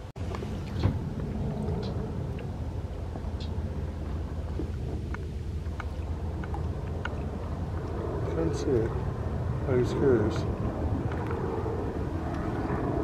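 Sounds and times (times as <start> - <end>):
airboat engine idling: 0.0 - 13.0.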